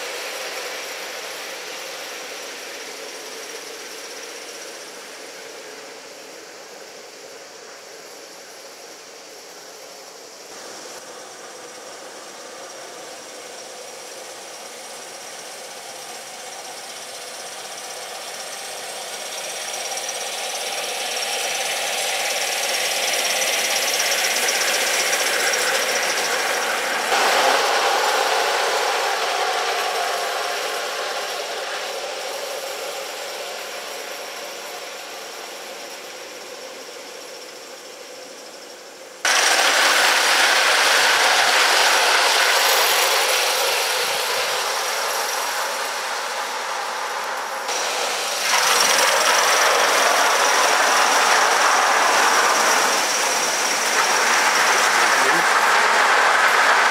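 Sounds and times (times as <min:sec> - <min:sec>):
model steam train running: 0:00.0 - 0:56.9.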